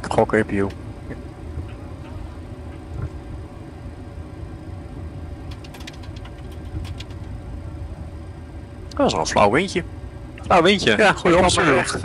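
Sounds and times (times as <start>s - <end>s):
faint steady hum: 0.0s - 12.0s
idling jet engines rumble: 0.0s - 12.0s.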